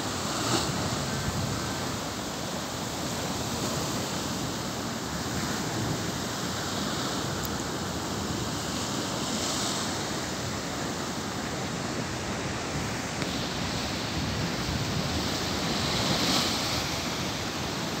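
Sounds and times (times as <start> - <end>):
surf rushing over rocks: 0.0 - 18.0
wave crashing: 0.0 - 18.0.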